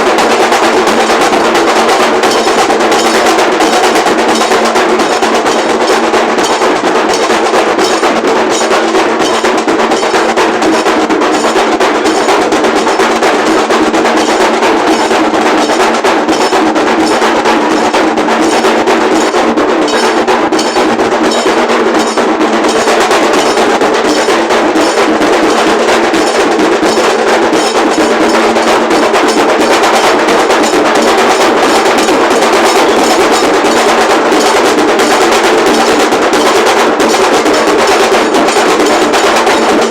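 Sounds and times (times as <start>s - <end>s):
fast dhol drumming: 0.0s - 39.9s.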